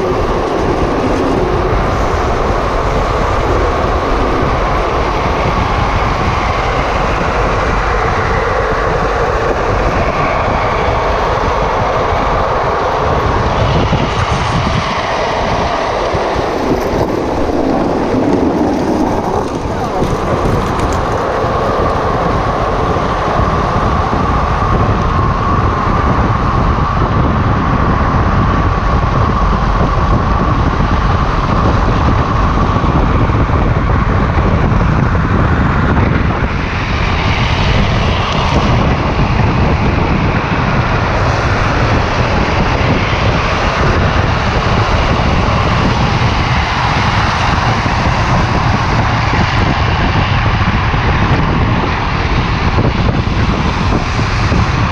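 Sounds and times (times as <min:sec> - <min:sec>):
wheels rolling on asphalt: 0:00.0 - 0:54.9
wind rush on microphone: 0:00.0 - 0:54.9.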